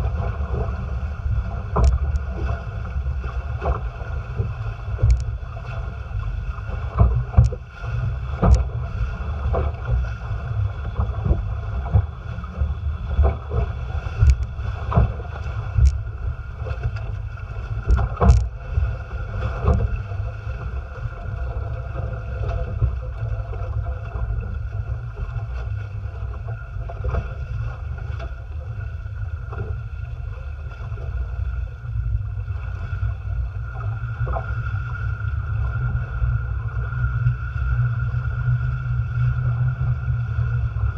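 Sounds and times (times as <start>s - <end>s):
hulls slapping waves: 0.0s - 39.7s
water rushing past hulls: 0.0s - 40.9s.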